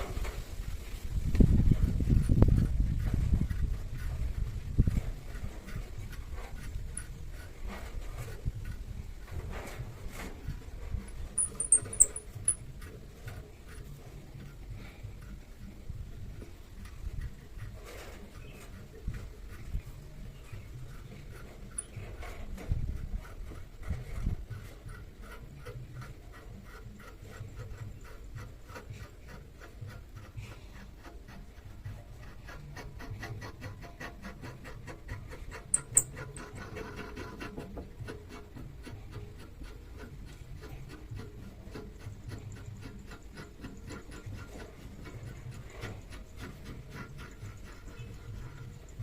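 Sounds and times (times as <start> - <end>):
filing metal: 1.6 - 49.0.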